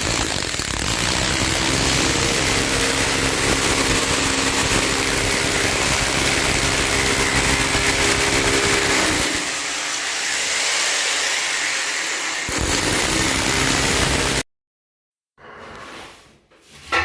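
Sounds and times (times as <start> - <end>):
power tool motor running: 0.0 - 14.4.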